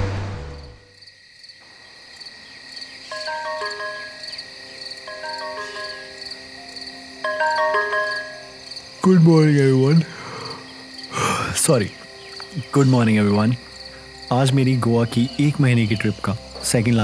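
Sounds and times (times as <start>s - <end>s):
crickets chirping: 0.4s - 17.0s
background music: 2.7s - 17.0s.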